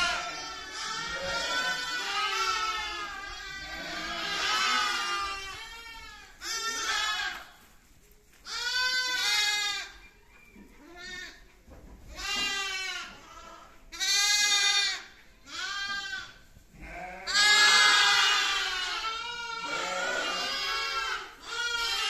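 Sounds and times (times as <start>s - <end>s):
lambs bleating: 0.0s - 7.6s, 8.4s - 10.0s, 10.8s - 11.5s, 12.1s - 22.0s.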